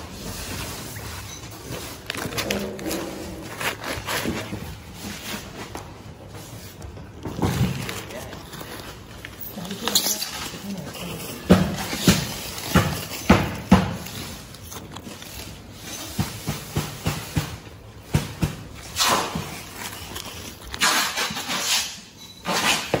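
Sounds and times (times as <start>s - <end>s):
ice and plastic crunching: 0.0s - 22.9s.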